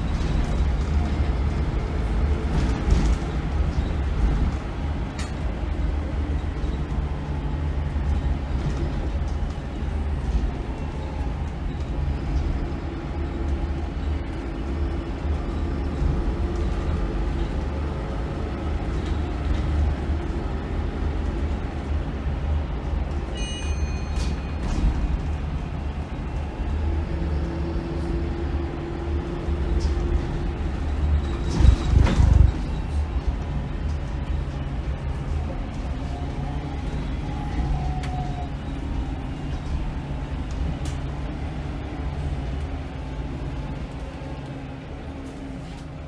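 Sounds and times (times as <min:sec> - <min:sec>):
bus diesel engine rumbling: 0:00.0 - 0:46.0.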